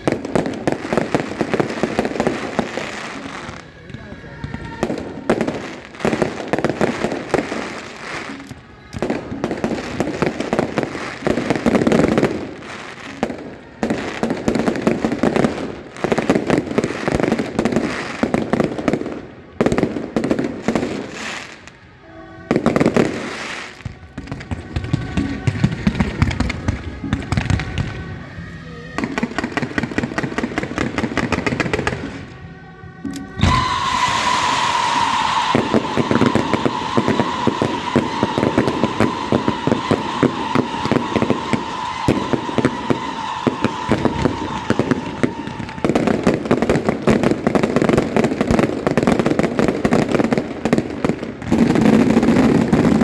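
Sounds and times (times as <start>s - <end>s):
fireworks banging and crackling: 0.0s - 53.0s.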